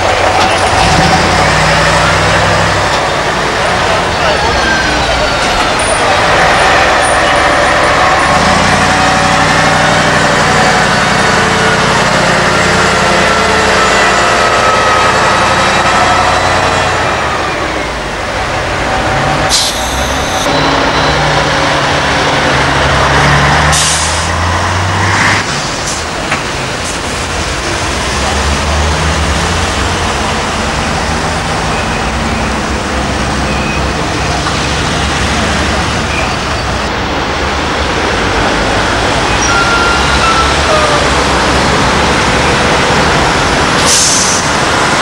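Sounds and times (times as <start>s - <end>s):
truck diesel engine running: 0.0s - 45.0s.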